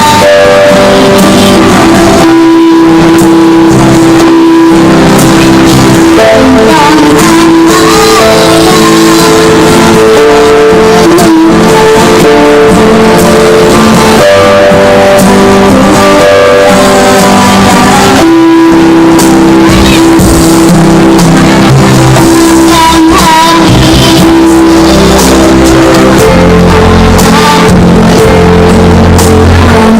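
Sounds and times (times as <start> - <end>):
guitar-led instrumental music: 0.0 - 29.9.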